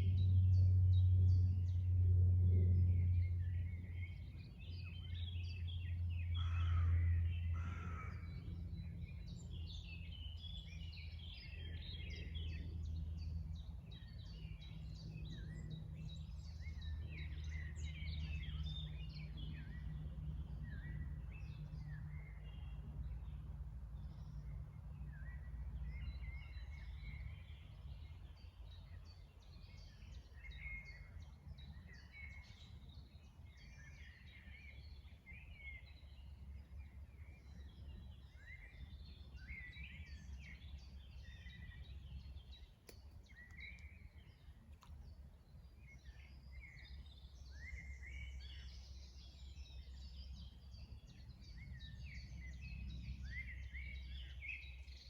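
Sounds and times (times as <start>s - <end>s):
faint low rumble: 0.0s - 55.0s
songbirds singing and chirping: 0.0s - 55.0s.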